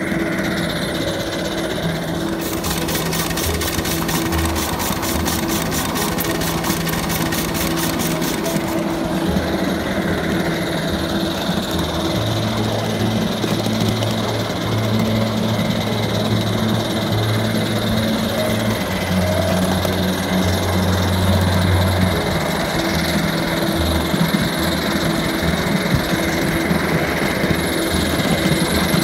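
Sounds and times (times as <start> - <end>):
steam locomotive running: 0.0 - 29.0
rapid even chuffing beat: 2.2 - 29.0.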